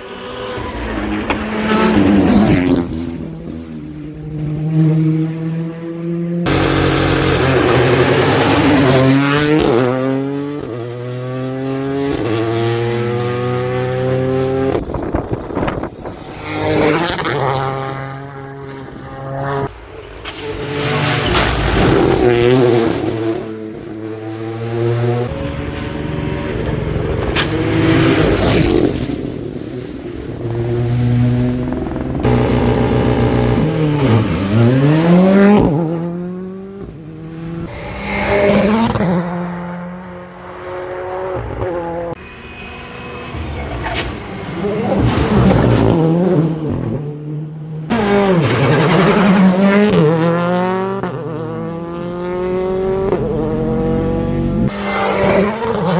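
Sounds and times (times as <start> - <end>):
car braking and passing: 0.0 - 55.9
rally car engines revving: 0.0 - 55.9.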